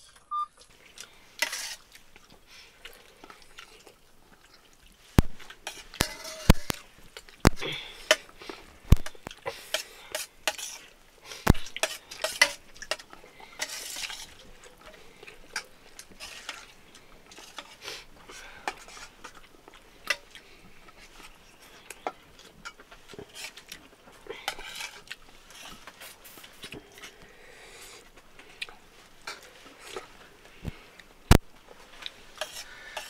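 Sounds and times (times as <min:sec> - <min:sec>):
fingers mixing food on plate: 0:05.2 - 0:27.3, 0:28.0 - 0:33.0.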